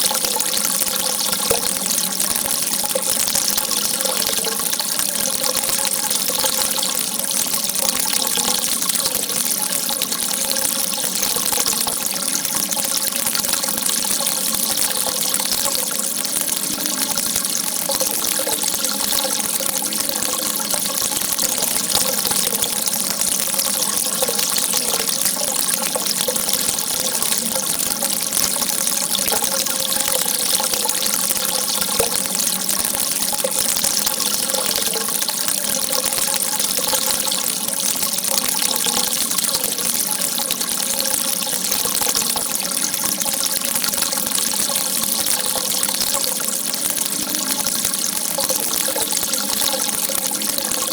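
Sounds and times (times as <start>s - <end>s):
water gushing: 0.0s - 50.9s.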